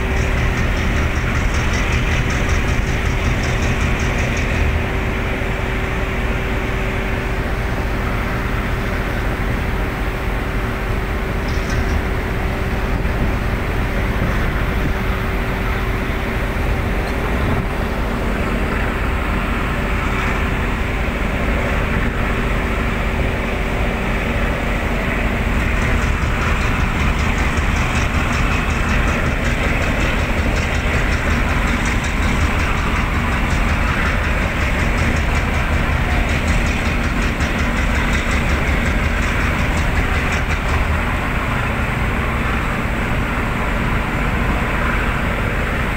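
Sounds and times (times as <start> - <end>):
ship engine rumbling: 0.0 - 45.9.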